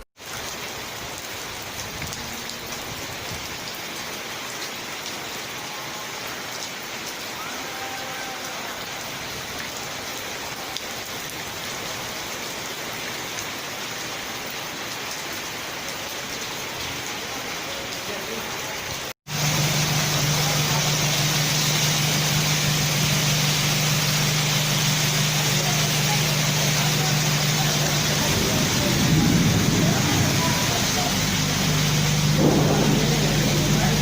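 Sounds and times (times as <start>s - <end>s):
rain falling steadily: 0.0s - 34.0s.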